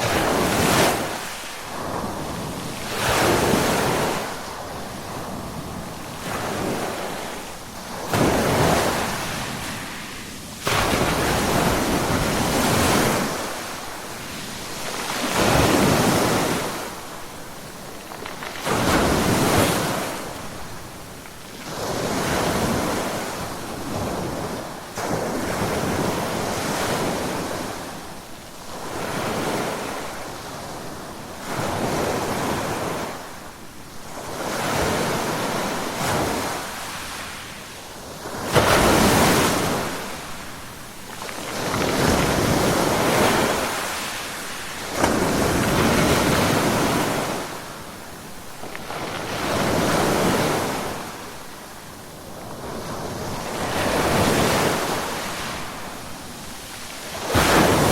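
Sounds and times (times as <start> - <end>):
ocean waves crashing on shore: 0.0 - 57.9.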